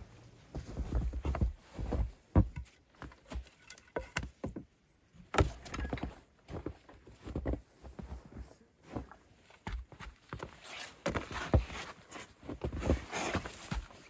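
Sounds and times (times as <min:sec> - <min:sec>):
footsteps: 0:00.0 - 0:04.6, 0:05.4 - 0:14.0.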